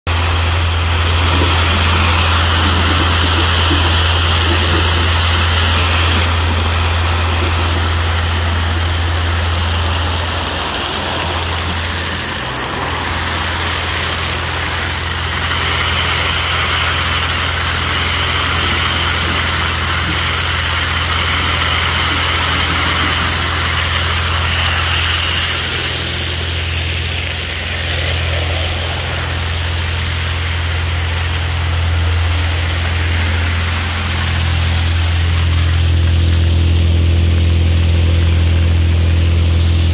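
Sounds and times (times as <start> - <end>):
vacuum droning: 0.0 - 39.9
hose sucking up gravel: 0.1 - 39.9.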